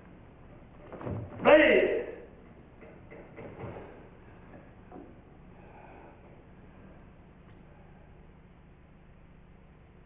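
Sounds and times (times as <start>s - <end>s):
faint hiss and hum: 0.0s - 10.0s.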